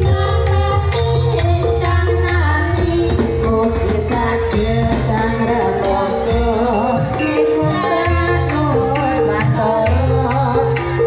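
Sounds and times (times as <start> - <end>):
loud amplified music with bass: 0.0 - 11.0
woman singing into a microphone: 0.0 - 11.0.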